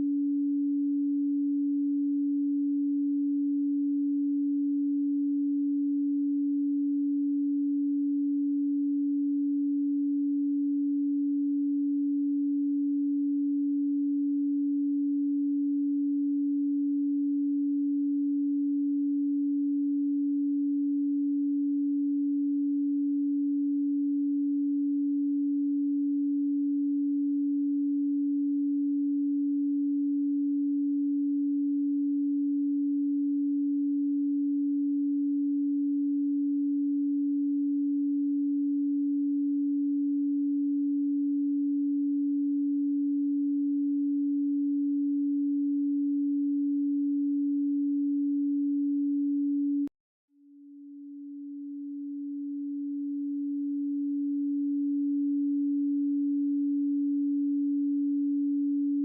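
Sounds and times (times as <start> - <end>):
pure sine tone: 0.0 - 59.0.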